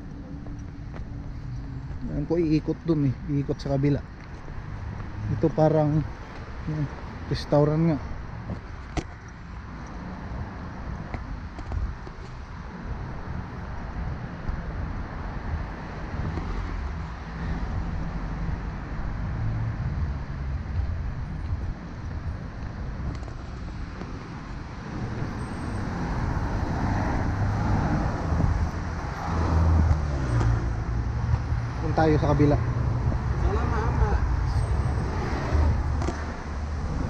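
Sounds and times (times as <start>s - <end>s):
cars driving past: 0.0s - 37.0s.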